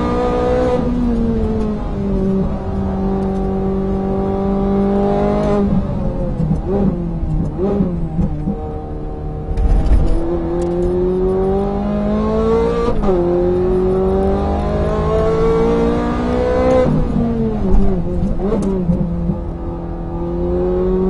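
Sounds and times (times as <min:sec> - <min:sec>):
car engine accelerating through gears: 0:00.0 - 0:21.0.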